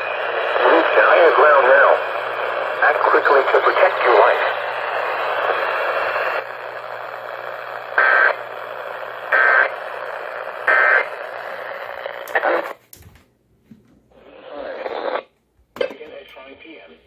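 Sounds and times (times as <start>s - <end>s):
radio hiss: 0.0s - 12.8s, 14.1s - 17.0s.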